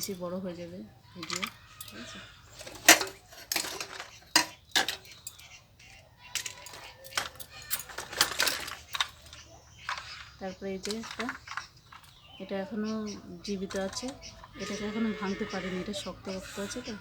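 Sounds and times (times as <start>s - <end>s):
toys clattering in a basin: 0.0s - 0.4s, 1.2s - 12.3s, 13.4s - 17.0s.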